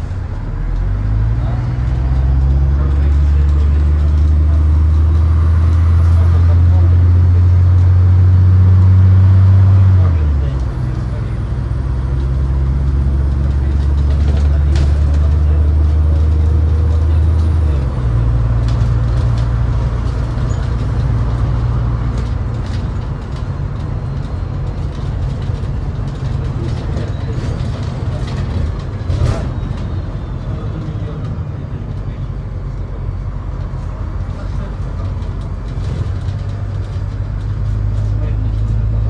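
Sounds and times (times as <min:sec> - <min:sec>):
bus engine drone: 0:00.0 - 0:39.0
road rumble: 0:00.0 - 0:39.0.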